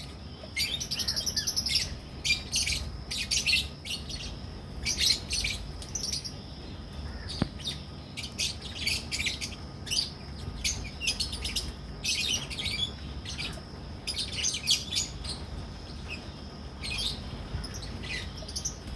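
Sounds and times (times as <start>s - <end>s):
flock of birds chirping: 0.0s - 18.9s.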